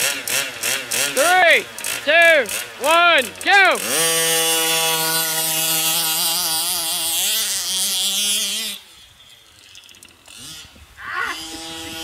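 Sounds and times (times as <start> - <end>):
small two-stroke engine droning: 0.0 - 12.0.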